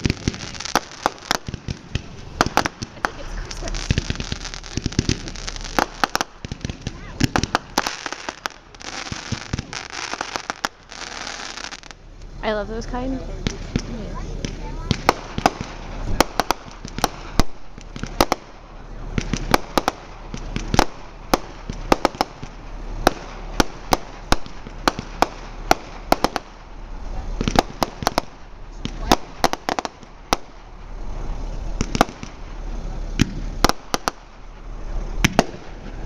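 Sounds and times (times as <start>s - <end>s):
fireworks bangs and pops: 0.0s - 12.3s, 12.9s - 36.0s
low rumble: 0.0s - 36.0s.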